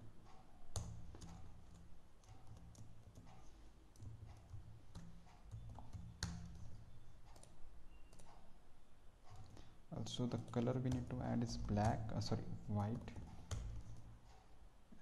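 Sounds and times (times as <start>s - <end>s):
keyboard typing: 0.7s - 8.6s, 9.2s - 14.2s.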